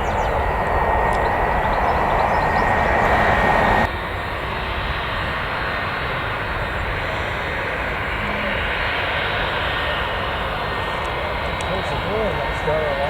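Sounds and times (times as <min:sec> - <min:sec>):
jet engines whining: 0:00.0 - 0:13.0
rush of engine noise: 0:00.0 - 0:13.0.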